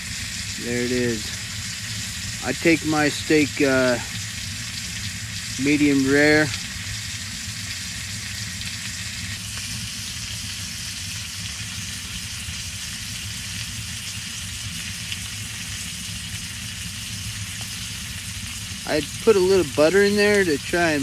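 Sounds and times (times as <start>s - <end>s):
steak sizzling in a frying pan: 0.0s - 21.0s.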